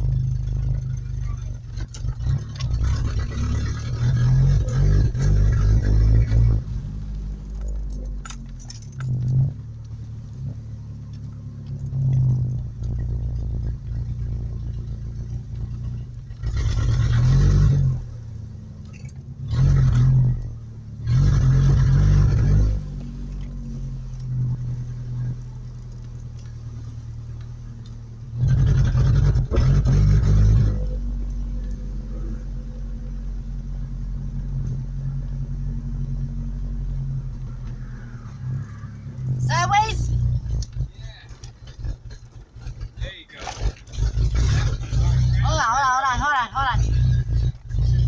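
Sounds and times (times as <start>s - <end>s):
truck engine revving: 0.0s - 48.0s.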